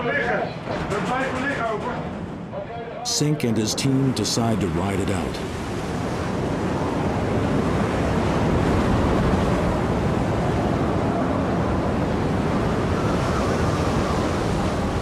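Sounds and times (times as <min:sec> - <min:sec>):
storm wind: 0:00.0 - 0:15.0
rough sea waves: 0:02.2 - 0:15.0.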